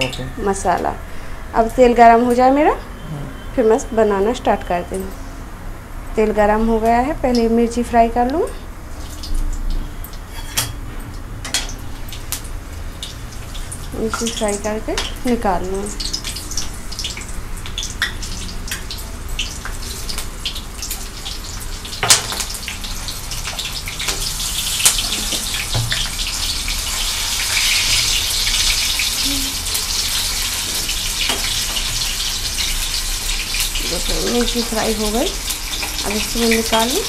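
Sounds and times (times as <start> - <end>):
chillies sizzling in hot oil: 6.2 - 10.6, 11.4 - 37.0.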